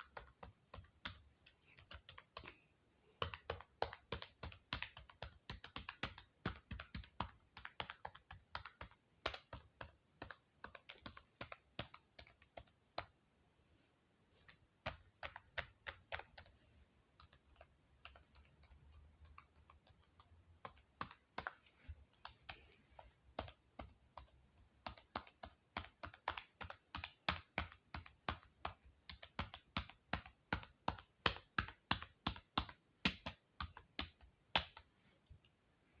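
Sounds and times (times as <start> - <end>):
computer keyboard typing: 3.2 - 13.2, 14.4 - 16.6, 17.2 - 34.8.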